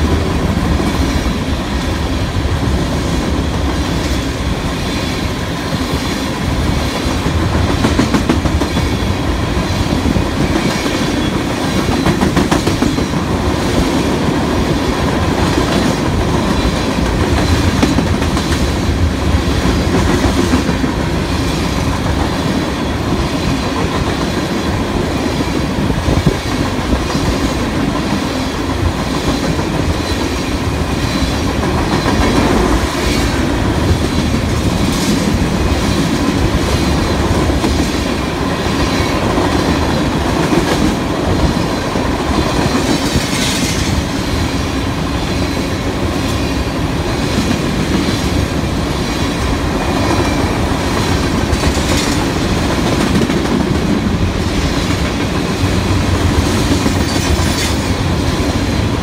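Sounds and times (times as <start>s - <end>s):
train cars rumbling: 0.0s - 59.0s.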